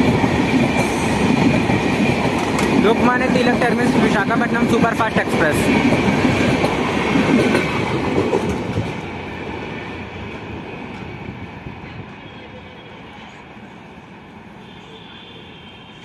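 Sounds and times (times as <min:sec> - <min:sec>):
train coaches running past: 0:00.0 - 0:16.0.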